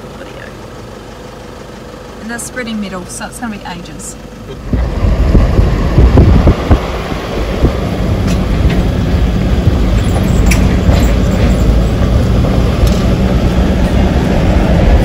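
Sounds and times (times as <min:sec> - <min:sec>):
car road and wind rumble: 0:00.0 - 0:15.0.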